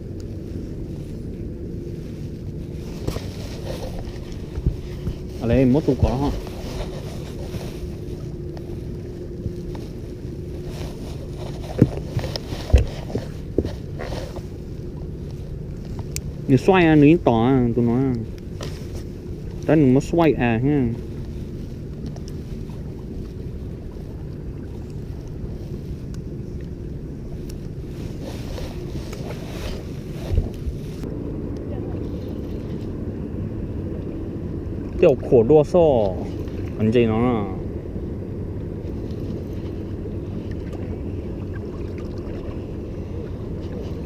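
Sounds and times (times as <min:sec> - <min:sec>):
wind buffeting microphone: 0:00.0 - 0:35.3
boat motor rumbling: 0:00.0 - 0:44.0.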